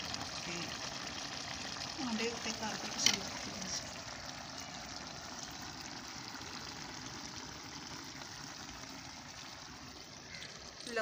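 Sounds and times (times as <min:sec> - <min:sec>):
curry simmering: 0:00.0 - 0:11.0.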